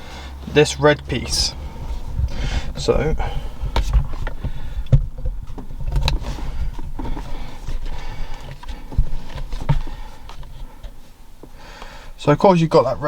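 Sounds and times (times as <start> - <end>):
low rumbling handling noise: 0.0 - 13.0.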